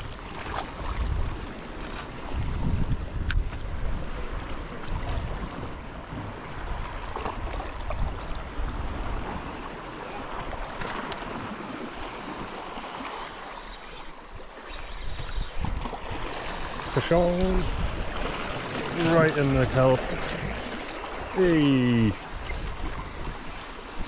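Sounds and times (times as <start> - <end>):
wind rumbling on microphone: 0.0 - 12.6, 14.3 - 19.4, 22.0 - 24.0
sea water washing against rocks: 0.0 - 24.0.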